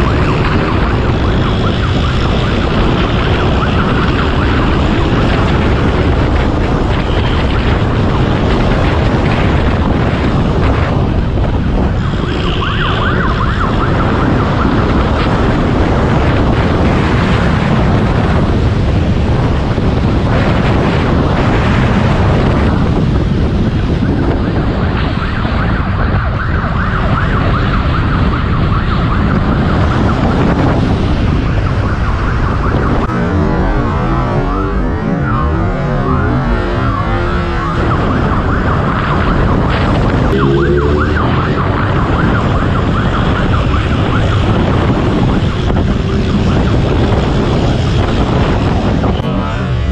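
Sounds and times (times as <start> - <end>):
police siren: 0.0 - 17.5, 23.9 - 49.9
motorcycle engine at high speed: 0.0 - 25.8, 29.5 - 49.9
wind noise: 0.0 - 49.9.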